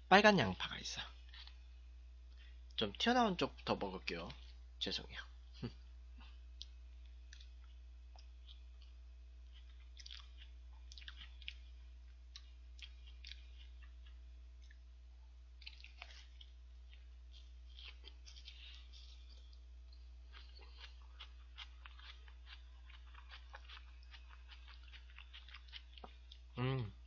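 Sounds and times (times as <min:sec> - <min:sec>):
steady low hum: 0:00.0 - 0:27.0
man chewing food: 0:01.1 - 0:02.8, 0:05.5 - 0:27.0.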